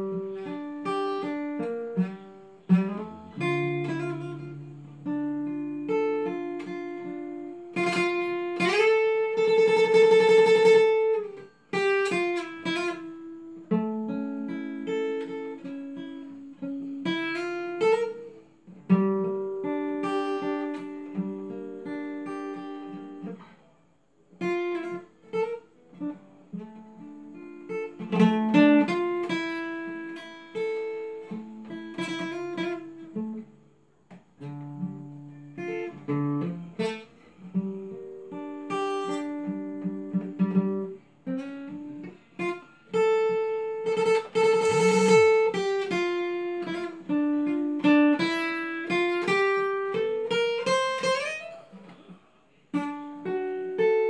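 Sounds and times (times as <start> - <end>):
fingerstyle acoustic guitar: 0.0 - 54.0.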